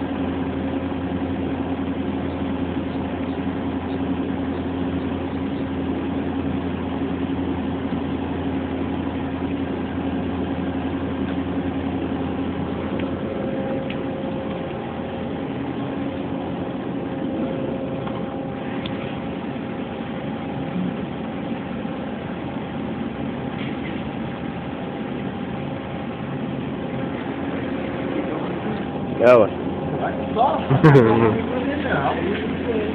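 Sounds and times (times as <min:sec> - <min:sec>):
machine mechanical hum: 0:00.0 - 0:32.9.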